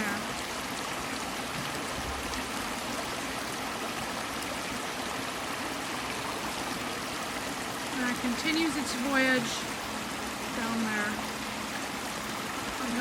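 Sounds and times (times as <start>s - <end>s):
water rushing down waterfall: 0.0s - 13.0s.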